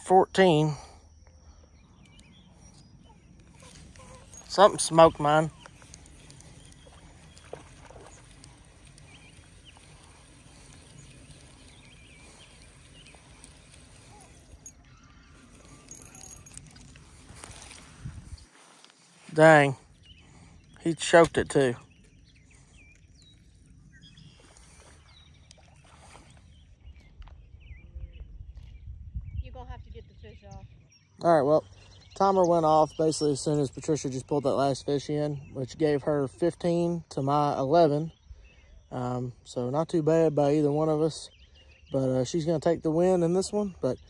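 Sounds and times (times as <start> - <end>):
small bird chirping: 0.1 - 44.0.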